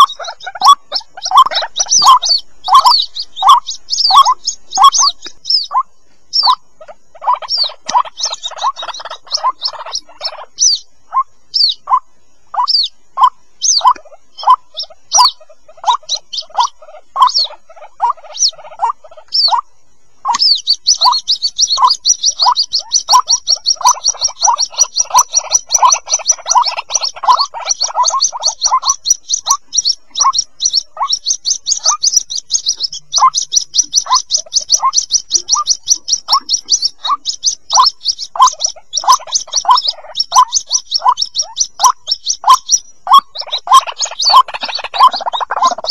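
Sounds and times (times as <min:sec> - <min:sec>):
bird chicks peeping: 0:00.0 - 0:45.9.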